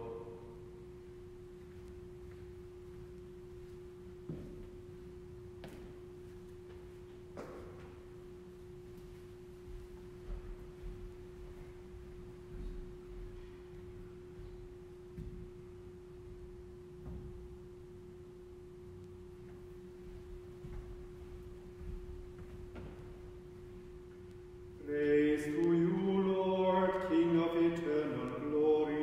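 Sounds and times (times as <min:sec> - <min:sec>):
steady pure tone: 0:00.0 - 0:29.0.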